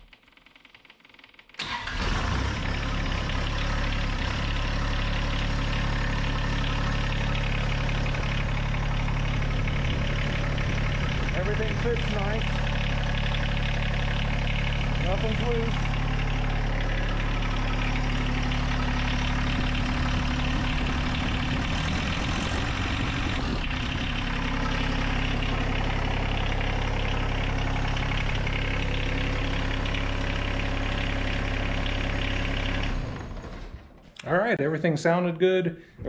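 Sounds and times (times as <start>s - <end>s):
diesel tractor engine idling: 1.6s - 34.1s.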